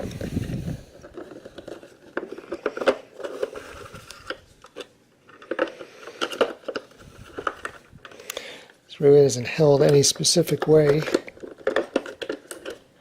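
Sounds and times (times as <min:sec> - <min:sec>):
plastic toy rustling: 0:00.0 - 0:08.2, 0:09.4 - 0:13.0.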